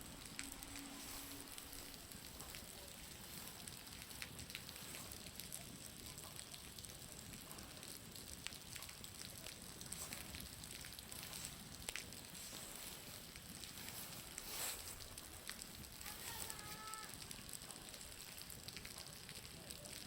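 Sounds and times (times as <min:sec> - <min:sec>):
bonfire crackling: 0:00.0 - 0:20.0
steady hiss: 0:00.0 - 0:20.0
water dripping off a roof: 0:00.0 - 0:20.0.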